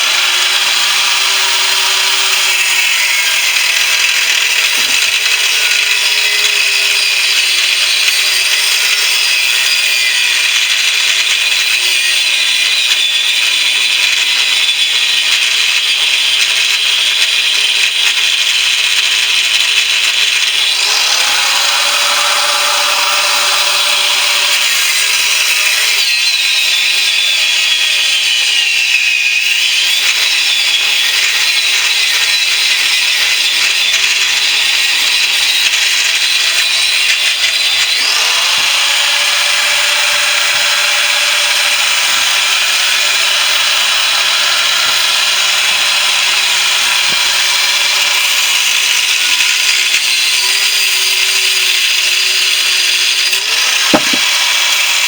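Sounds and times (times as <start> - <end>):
power tool cutting metal: 0.0 - 55.0.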